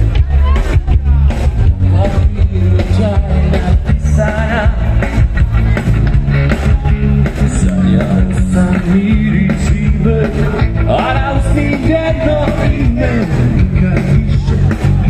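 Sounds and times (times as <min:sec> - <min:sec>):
man singing: 0:00.0 - 0:05.8, 0:06.6 - 0:15.0
live rock band playing: 0:00.0 - 0:15.0.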